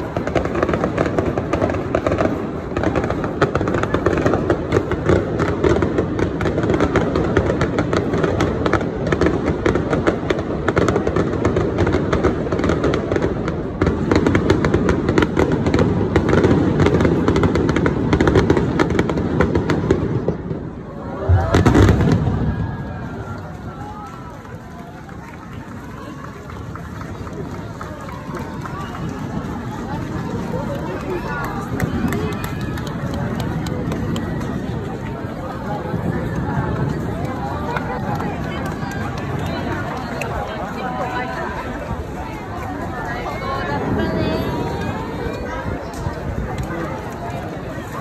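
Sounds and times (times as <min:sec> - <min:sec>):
fireworks crackling and booming: 0:00.0 - 0:48.0.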